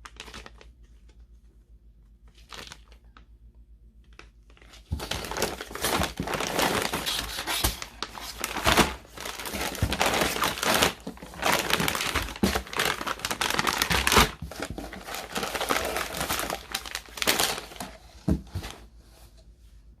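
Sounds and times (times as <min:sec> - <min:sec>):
packaging crinkling and rustling: 0:00.0 - 0:01.4, 0:02.2 - 0:03.4, 0:04.0 - 0:19.0.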